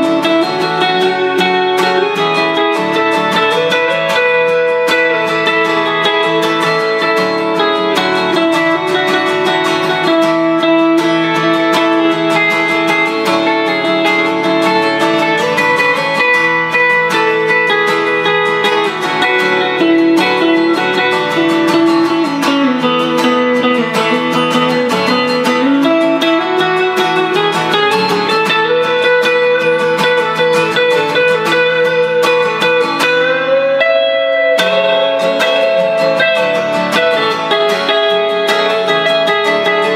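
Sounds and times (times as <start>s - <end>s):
acoustic guitar strumming: 0.0s - 39.9s
electric guitar gliding notes: 0.0s - 39.9s.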